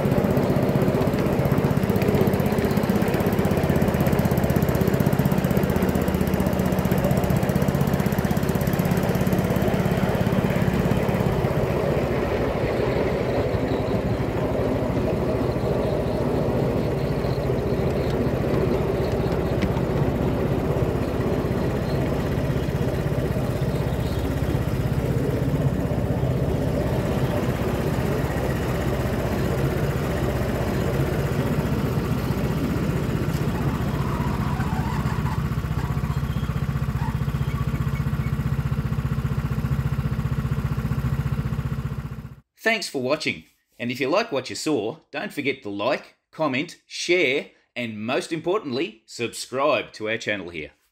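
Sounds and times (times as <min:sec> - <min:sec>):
small locomotive engine running: 0:00.0 - 0:42.4.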